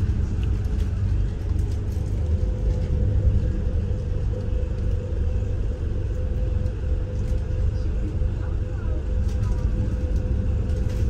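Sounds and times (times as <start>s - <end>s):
boat engine rumble: 0.0s - 11.0s
constant hum: 0.0s - 11.0s.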